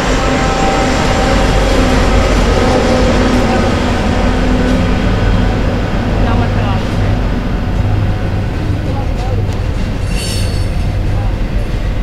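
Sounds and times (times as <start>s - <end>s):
locomotive engine running: 0.0s - 12.0s
train wheels on rails: 0.0s - 12.0s.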